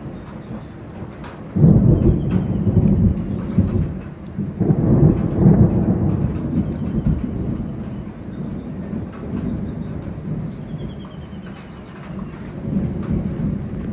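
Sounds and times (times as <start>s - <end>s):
rain falling: 0.0s - 13.9s
thunder rumbling: 0.0s - 13.9s.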